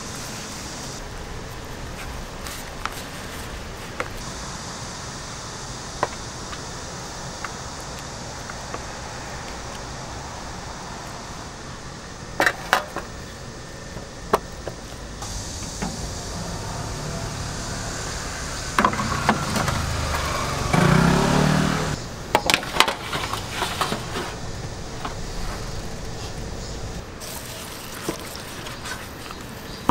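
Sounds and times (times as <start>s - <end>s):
outdoor background noise: 0.0s - 29.9s.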